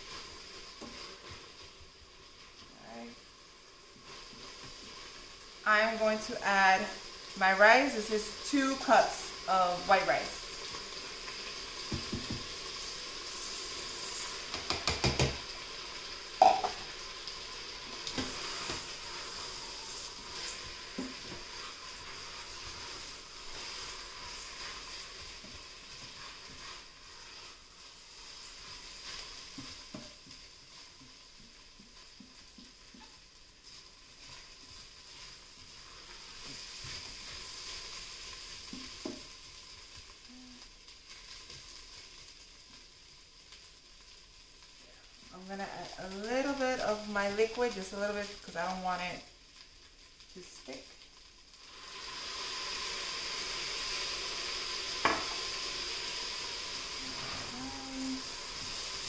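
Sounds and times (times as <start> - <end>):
food sizzling in a pot: 0.0 - 59.0.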